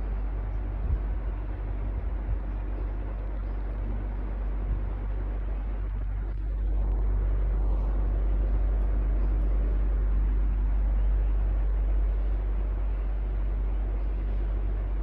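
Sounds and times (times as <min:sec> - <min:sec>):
electric fan humming: 0:00.0 - 0:15.0.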